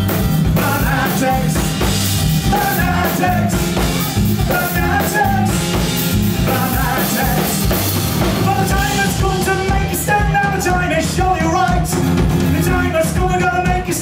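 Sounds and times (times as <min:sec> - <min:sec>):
bass guitar: 0:00.0 - 0:14.0
drum kit beat: 0:00.0 - 0:14.0.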